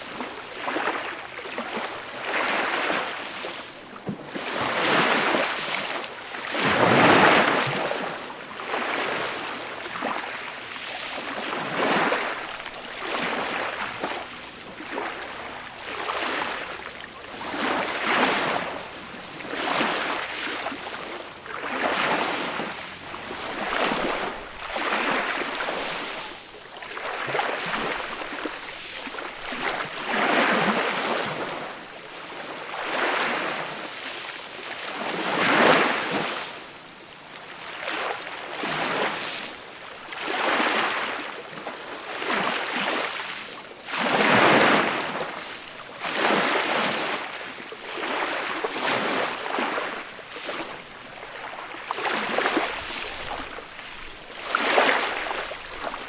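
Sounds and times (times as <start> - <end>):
small waves breaking on shore: 0.0 - 56.0.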